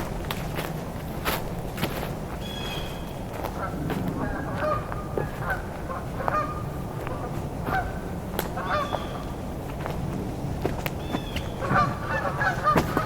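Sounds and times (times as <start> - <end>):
steady low rumble: 0.0 - 13.0
geese honking: 1.1 - 13.0.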